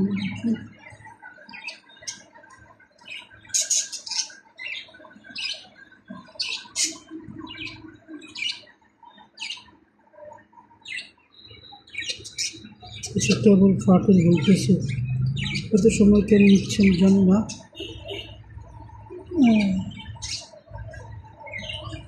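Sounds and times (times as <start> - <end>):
budgerigars chirping and squawking: 0.0 - 9.7, 10.8 - 22.0.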